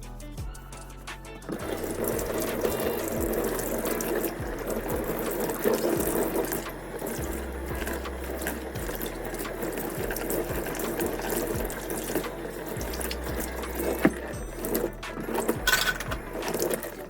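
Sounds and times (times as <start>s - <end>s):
tap running into sink: 1.5s - 17.0s.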